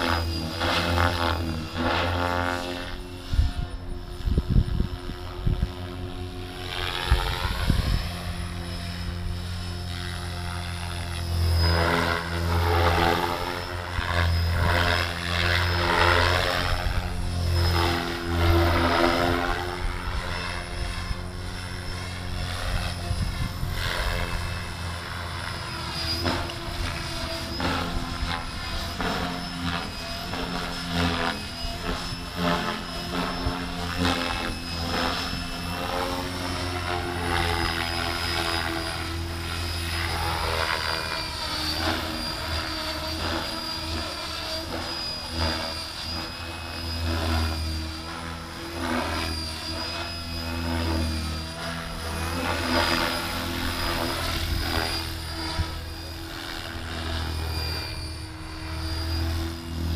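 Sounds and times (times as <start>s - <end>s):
electric motor whine: 0.0s - 59.9s
rotor blades chopping: 4.6s - 59.9s.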